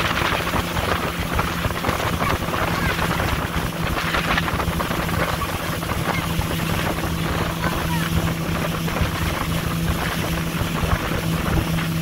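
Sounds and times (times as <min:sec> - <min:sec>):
motorboat engine humming: 0:00.0 - 0:12.0
wind buffeting microphone: 0:00.0 - 0:12.0.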